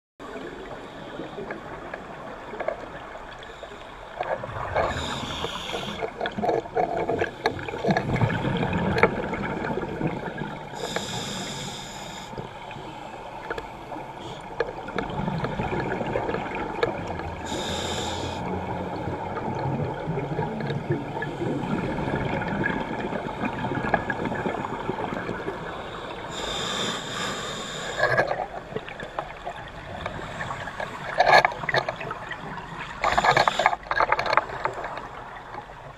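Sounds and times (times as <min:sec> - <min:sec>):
underwater rumble and hiss: 0:00.2 - 0:35.9.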